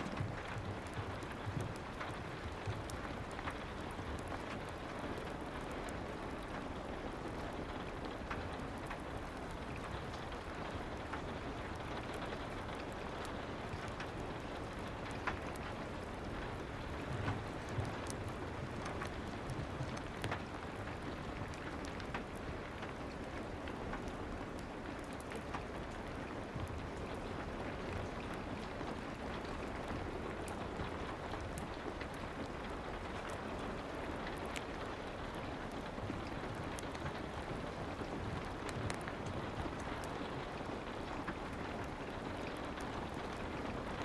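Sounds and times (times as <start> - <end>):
fireplace fire crackling: 0.0 - 44.0
soft rain: 0.0 - 44.0.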